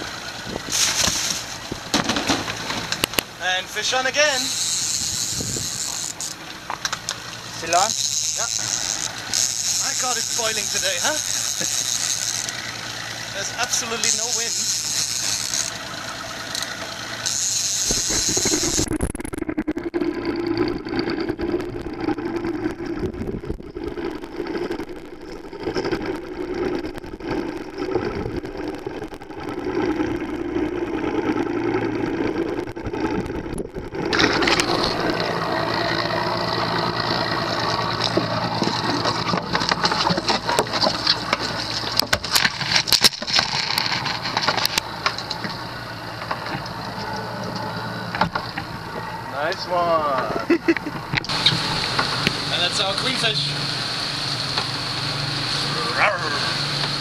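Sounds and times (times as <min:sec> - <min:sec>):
boat engines running: 0:00.0 - 0:57.0.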